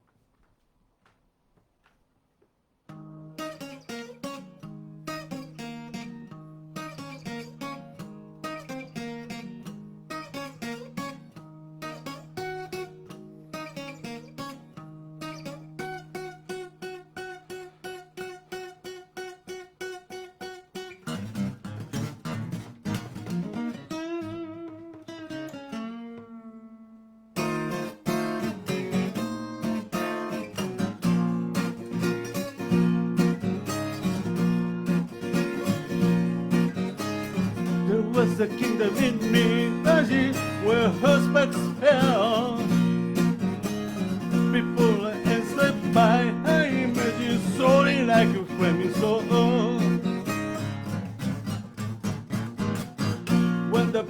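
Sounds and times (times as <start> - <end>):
solo guitar playing: 2.9 - 54.0.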